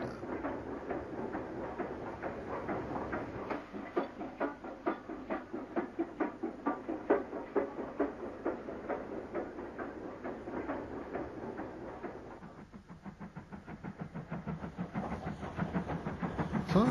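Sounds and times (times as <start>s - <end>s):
steam locomotive chuffing: 0.0s - 16.9s.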